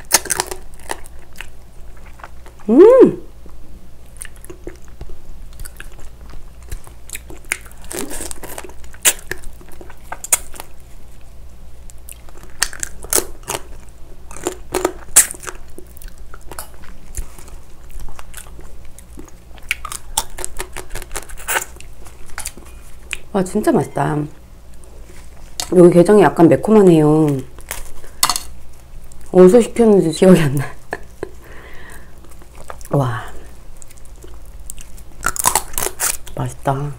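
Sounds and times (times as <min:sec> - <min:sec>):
crunching and chewing crab shell: 0:00.0 - 0:02.7, 0:03.5 - 0:23.4, 0:27.2 - 0:29.5, 0:30.9 - 0:36.7.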